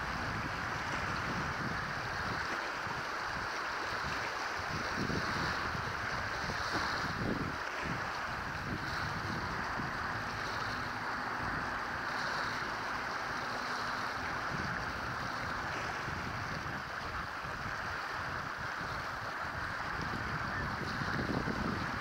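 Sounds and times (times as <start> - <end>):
choppy water on shore: 0.0 - 22.0
wind buffeting microphone: 0.0 - 22.0.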